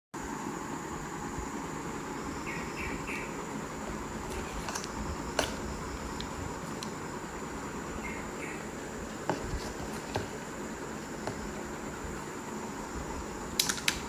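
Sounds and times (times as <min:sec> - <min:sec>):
insects chirping: 0:00.2 - 0:14.0
steady hiss: 0:00.2 - 0:14.0.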